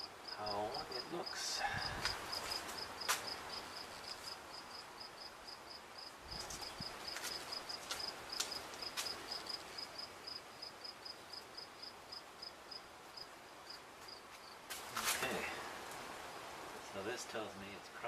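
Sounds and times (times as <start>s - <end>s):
cricket chirping: 0.0s - 16.6s.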